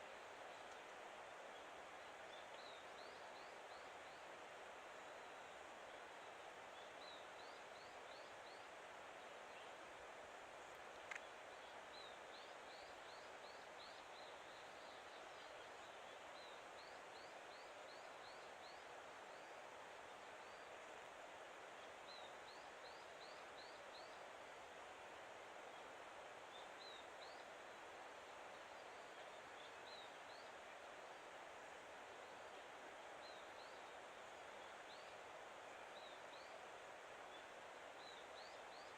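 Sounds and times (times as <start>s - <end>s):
faint outdoor background hiss: 0.0s - 38.9s.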